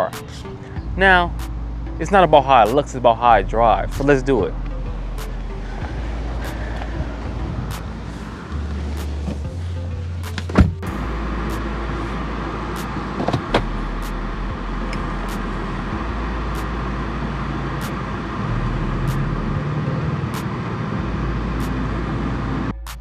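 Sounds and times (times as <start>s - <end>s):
car engine driving off: 0.0s - 22.9s.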